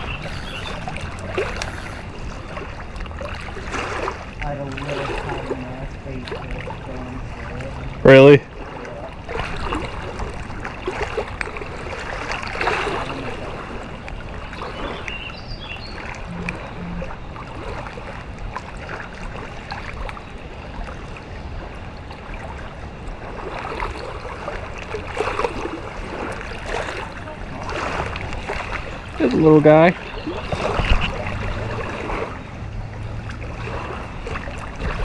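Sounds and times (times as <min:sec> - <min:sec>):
river water flowing: 0:00.0 - 0:35.0
wind buffeting microphone: 0:00.0 - 0:35.0.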